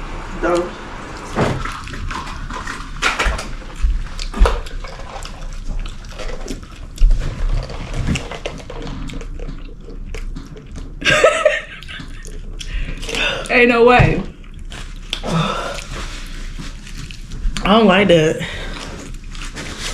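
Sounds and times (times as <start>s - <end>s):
chewing and mouth smacking: 1.2s - 11.0s, 11.6s - 13.2s, 14.3s - 17.7s, 18.7s - 19.9s.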